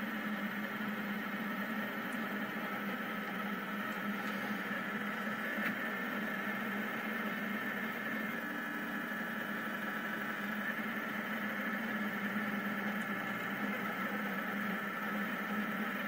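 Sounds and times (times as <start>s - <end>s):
printer motors whirring hum: 0.0s - 16.0s.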